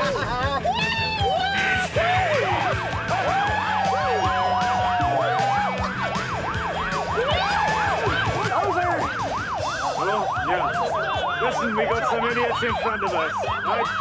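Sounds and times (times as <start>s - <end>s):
ambulance siren yelping: 0.0s - 14.0s.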